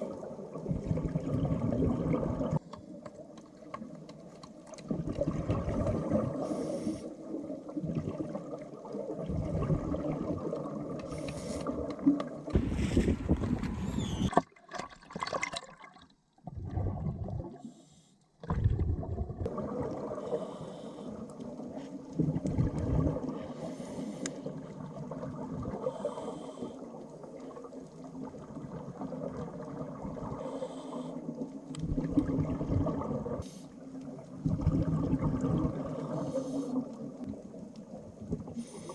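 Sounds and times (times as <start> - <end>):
water sloshing and bubbling: 0.0 - 38.9.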